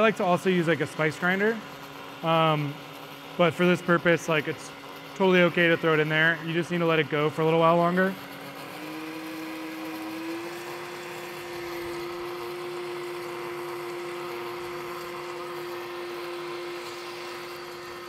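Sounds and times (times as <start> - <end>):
blender running: 0.0 - 18.0.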